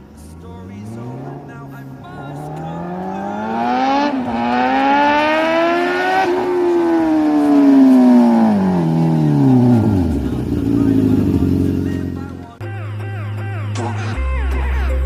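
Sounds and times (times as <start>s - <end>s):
motorcycle engine accelerating hard: 0.0s - 12.6s.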